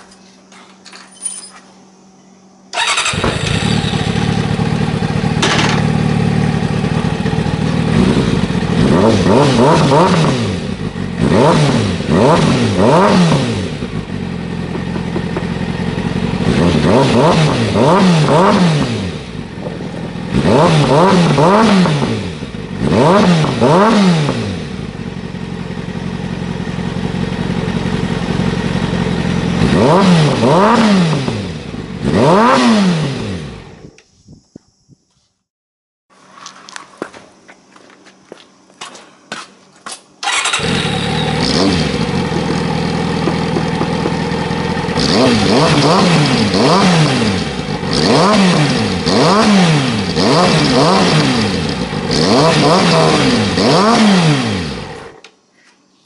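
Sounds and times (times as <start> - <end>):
motorcycle engine revving: 2.7 - 34.0, 40.2 - 55.3.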